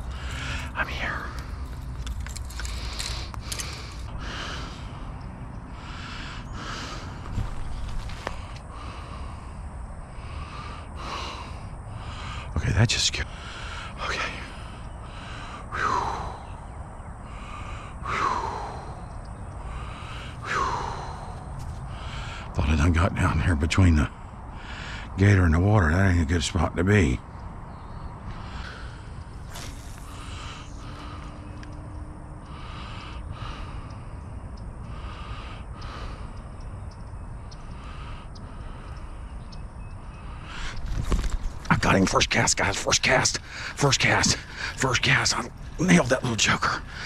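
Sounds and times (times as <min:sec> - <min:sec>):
man breathing heavily: 0:00.0 - 0:22.6, 0:24.1 - 0:25.2, 0:27.8 - 0:47.0
steady low rumble: 0:00.0 - 0:47.0.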